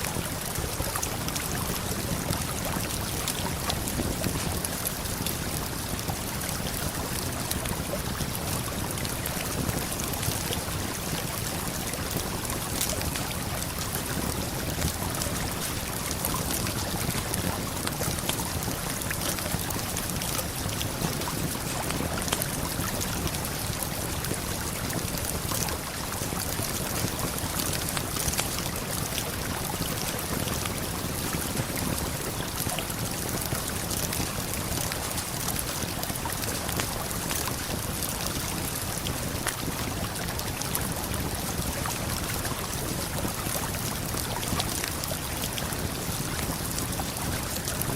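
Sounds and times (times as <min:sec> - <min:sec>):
campfire crackling: 0:00.1 - 0:42.3.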